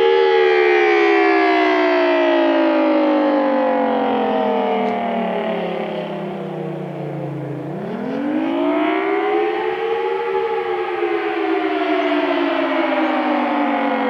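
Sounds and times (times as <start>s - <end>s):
rising and falling siren: 0.0s - 14.0s.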